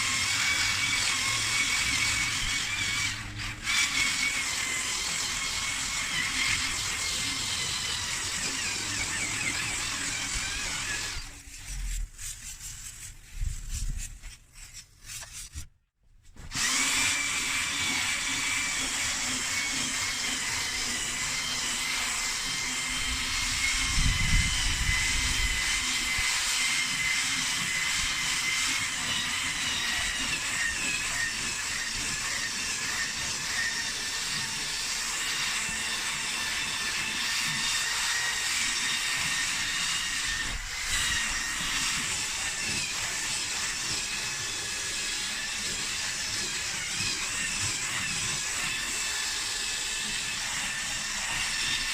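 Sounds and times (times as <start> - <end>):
electric motor whining: 0.0 - 11.4, 16.4 - 51.9.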